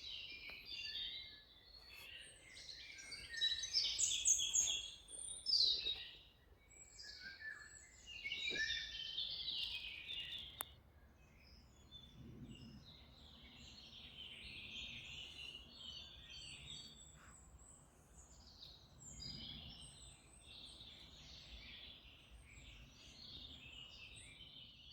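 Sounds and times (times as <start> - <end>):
songbirds chirping and singing: 0.0 - 24.9.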